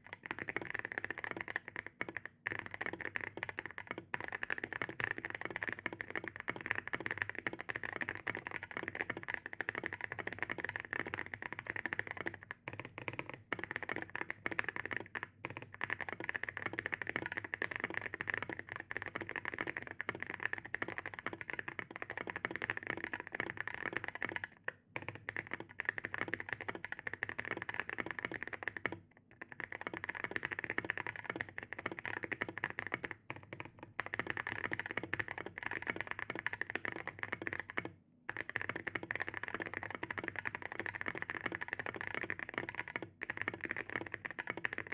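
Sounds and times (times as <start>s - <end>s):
fast mechanical keyboard typing: 0.0s - 44.9s.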